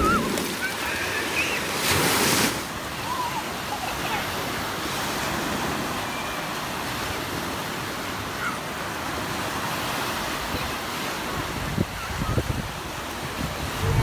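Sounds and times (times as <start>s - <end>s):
sea surf washing onto shore: 0.0s - 14.0s.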